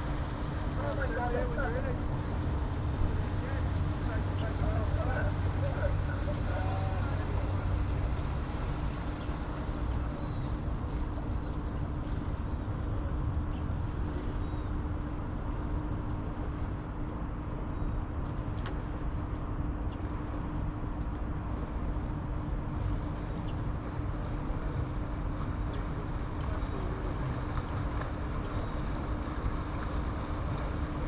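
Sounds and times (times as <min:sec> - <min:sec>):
distant motor hum: 0:00.0 - 0:31.0.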